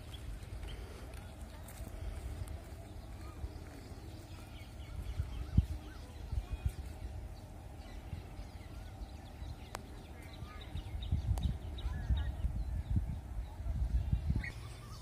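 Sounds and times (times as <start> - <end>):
low uneven rumble: 0.0 - 15.0
small birds chirping: 0.0 - 15.0.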